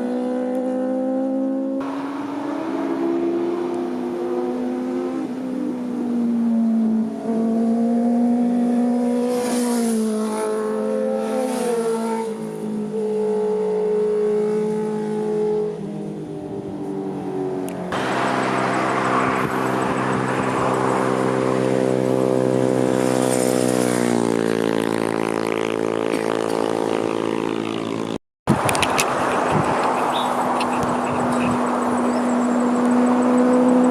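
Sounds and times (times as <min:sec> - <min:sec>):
motorcycle engines passing: 0:00.0 - 0:33.9.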